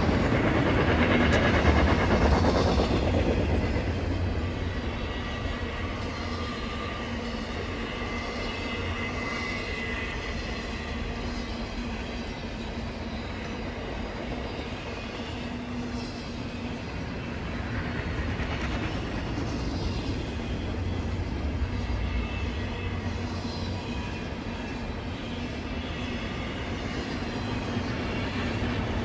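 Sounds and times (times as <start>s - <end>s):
freight train passing: 0.0s - 29.0s.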